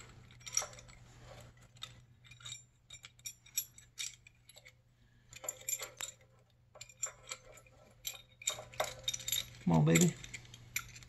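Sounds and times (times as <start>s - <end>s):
small metal parts clinking: 0.0s - 11.0s.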